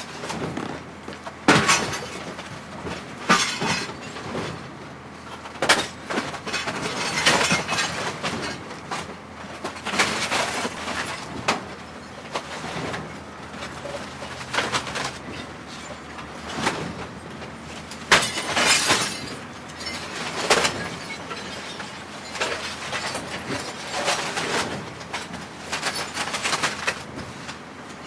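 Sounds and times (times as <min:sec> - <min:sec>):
garbage crusher machinery: 0:00.0 - 0:28.0
trash crunching and breaking: 0:00.0 - 0:28.0.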